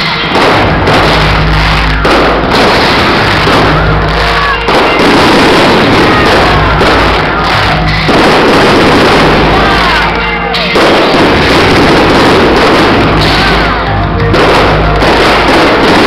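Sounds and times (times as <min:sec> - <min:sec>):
fireworks bangs and crackling: 0:00.0 - 0:16.0
music playing: 0:00.0 - 0:16.0.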